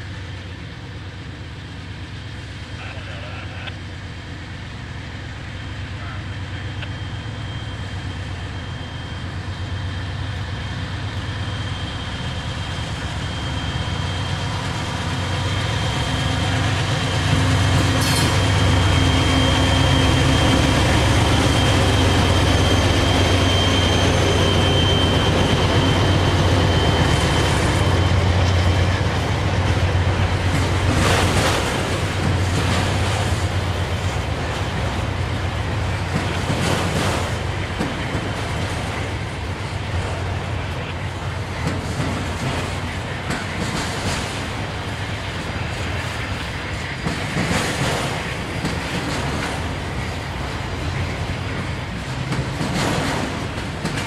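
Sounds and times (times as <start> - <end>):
locomotive engine hum: 0.0 - 54.0.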